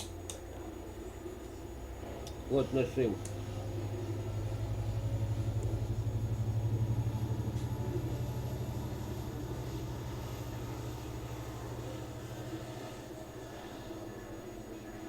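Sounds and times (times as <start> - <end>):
electrical hum with flutter: 0.0 - 15.0.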